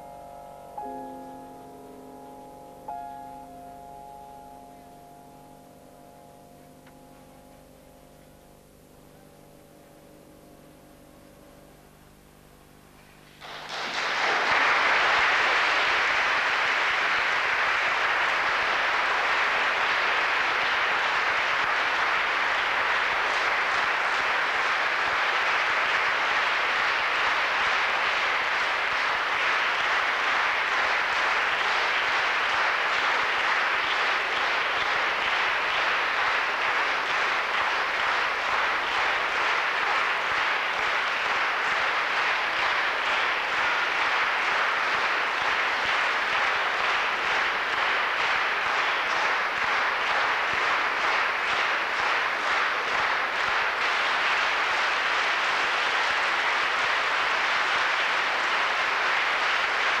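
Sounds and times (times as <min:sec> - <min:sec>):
audience applauding: 0:00.0 - 0:03.0, 0:11.9 - 1:00.0.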